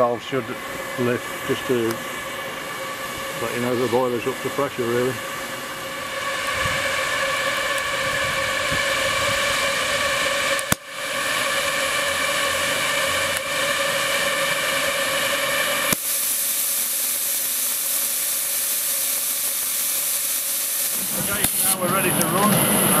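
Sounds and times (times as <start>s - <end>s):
steam hissing from safety valve: 0.0s - 23.0s.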